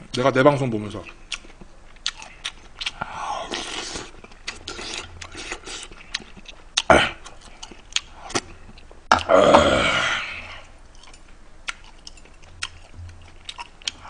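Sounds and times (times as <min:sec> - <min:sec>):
person slurping and chewing: 0:01.3 - 0:14.0.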